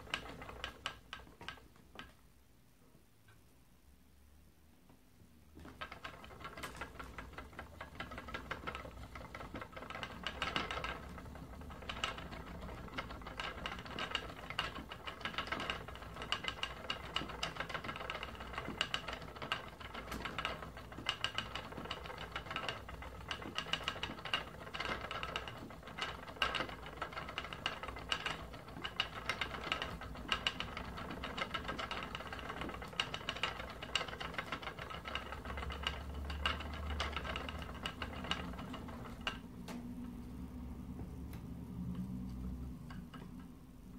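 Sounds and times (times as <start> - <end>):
spinning wheel ticking rattle: 0.0 - 1.6, 5.6 - 39.6.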